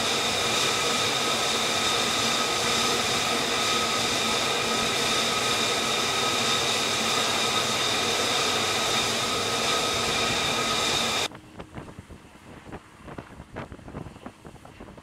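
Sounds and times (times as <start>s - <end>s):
jet engine roaring with high whine: 0.0s - 15.0s
wind buffeting microphone: 0.0s - 15.0s.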